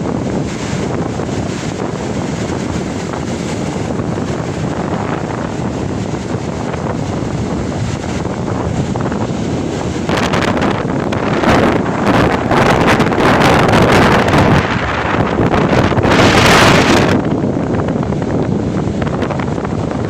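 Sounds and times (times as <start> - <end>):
surf: 0.0 - 20.0
wind buffeting microphone: 0.0 - 20.0.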